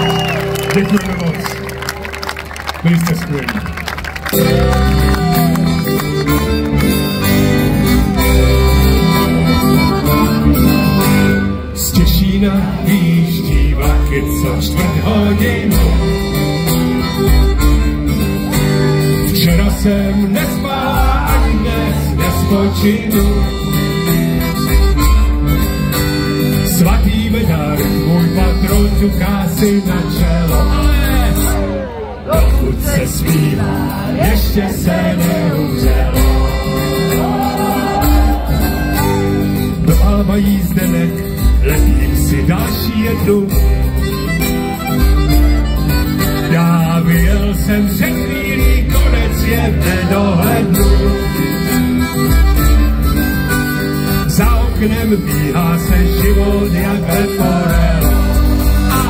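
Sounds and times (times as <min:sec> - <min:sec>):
acoustic guitar: 0:04.1 - 0:59.0
drums: 0:07.4 - 0:31.7, 0:32.3 - 0:59.0.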